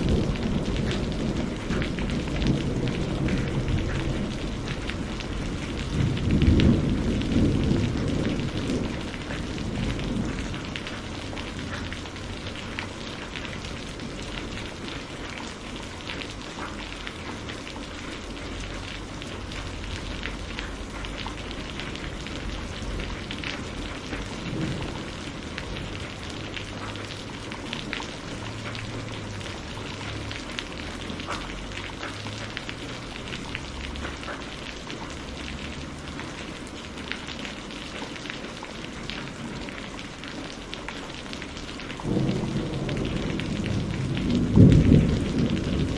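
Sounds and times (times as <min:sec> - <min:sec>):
thunder rumbling: 0:00.0 - 0:36.7, 0:41.2 - 0:45.9
raindrop ticks: 0:00.0 - 0:45.9
steady rain falling: 0:00.0 - 0:45.9.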